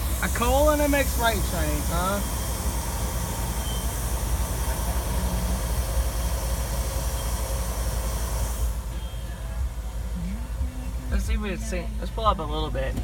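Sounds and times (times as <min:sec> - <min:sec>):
constant hiss: 0:00.0 - 0:13.0
freight train rumbling: 0:00.0 - 0:13.0.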